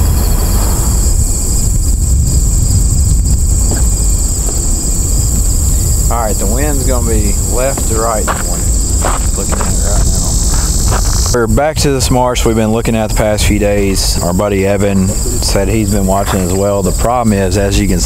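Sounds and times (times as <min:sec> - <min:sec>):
crickets chirring: 0:00.0 - 0:18.0
low wind rumble on microphone: 0:00.0 - 0:18.0.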